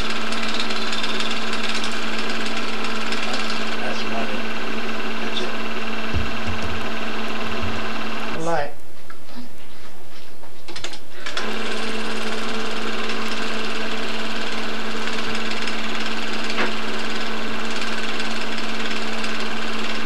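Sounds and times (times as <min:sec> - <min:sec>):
film projector hum and whir: 0:00.0 - 0:09.2, 0:10.7 - 0:20.0.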